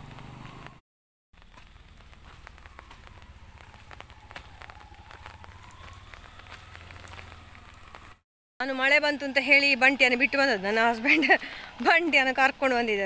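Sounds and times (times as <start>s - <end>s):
light rain pattering: 0.0s - 0.8s, 1.4s - 13.0s.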